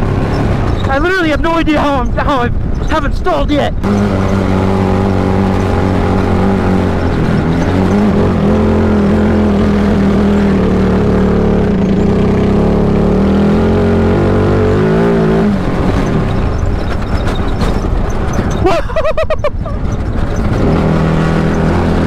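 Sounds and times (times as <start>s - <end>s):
rushing wind: 0.0s - 22.0s
tyre noise: 0.0s - 22.0s.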